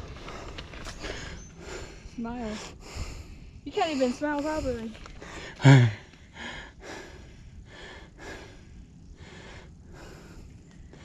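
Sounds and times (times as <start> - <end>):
soft uneven breath puffs: 0.0 - 11.0.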